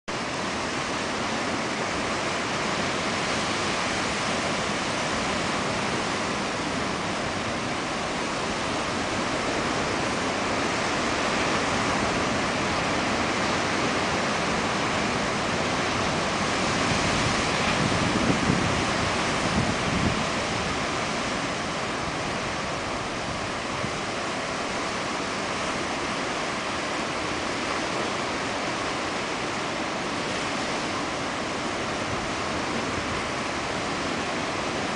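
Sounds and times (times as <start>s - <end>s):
surf breaking on rocks: 0.2s - 34.9s.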